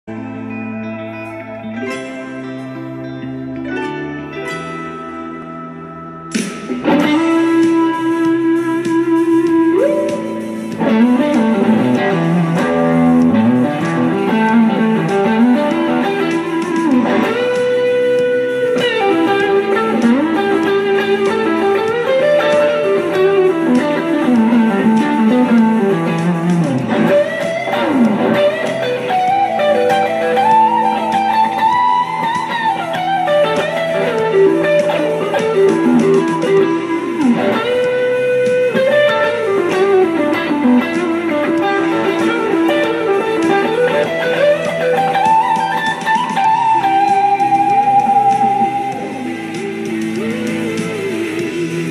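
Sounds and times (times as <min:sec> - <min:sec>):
electric guitar blues-rock solo: 0:00.1 - 0:51.9.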